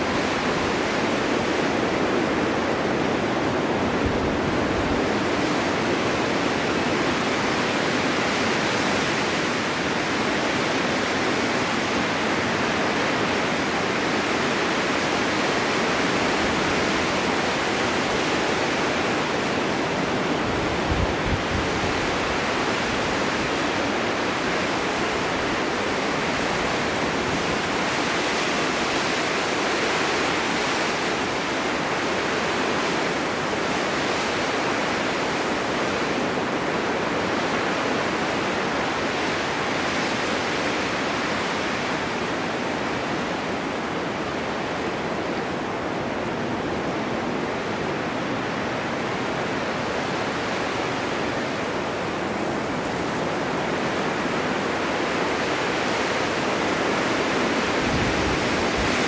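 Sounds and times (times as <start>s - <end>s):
wind blowing through forest: 0.0s - 59.0s.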